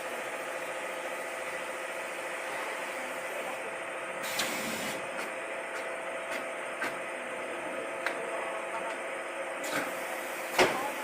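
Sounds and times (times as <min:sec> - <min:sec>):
machine humming and hissing: 0:00.0 - 0:11.0.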